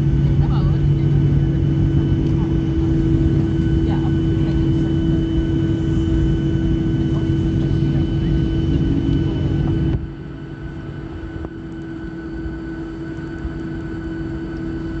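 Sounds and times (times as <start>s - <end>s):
jet engine and rolling rumble: 0.0s - 15.0s
steady cabin hum: 0.0s - 15.0s.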